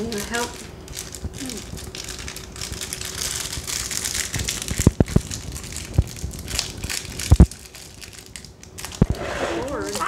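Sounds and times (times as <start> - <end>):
crinkling handling noise: 0.0 - 10.0.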